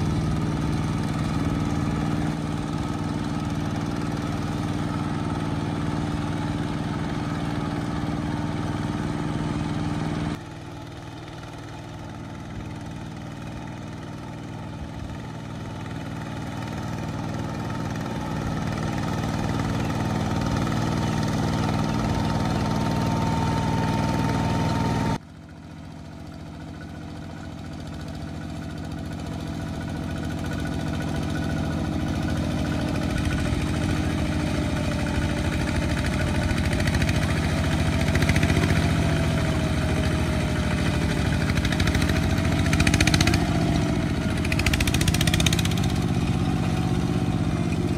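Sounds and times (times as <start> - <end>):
walking tractor diesel engine: 0.0 - 47.9.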